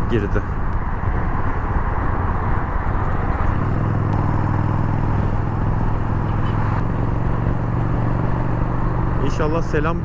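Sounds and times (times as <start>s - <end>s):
wind noise on microphone: 0.0s - 8.9s
motorcycle engine cruising: 0.0s - 10.0s.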